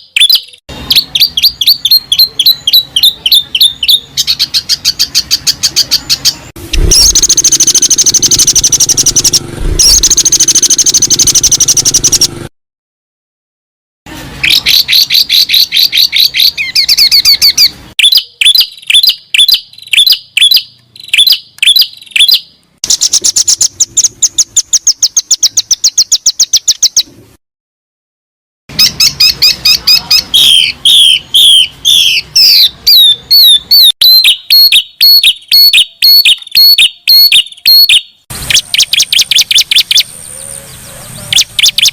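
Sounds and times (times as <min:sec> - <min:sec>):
recorded songbird chirps and trills: 0:00.0 - 0:12.5, 0:14.4 - 0:27.1, 0:28.7 - 0:41.9.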